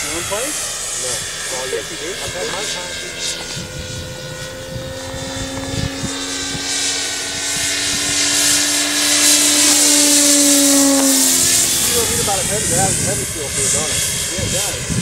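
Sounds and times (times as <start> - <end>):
model plane motor whine: 0.0 - 15.0.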